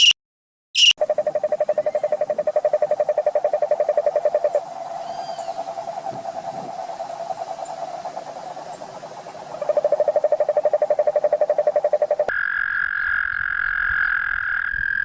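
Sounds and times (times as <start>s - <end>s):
frog pulsed trill: 0.8s - 15.0s
high-pitched frog trilling: 0.8s - 15.0s.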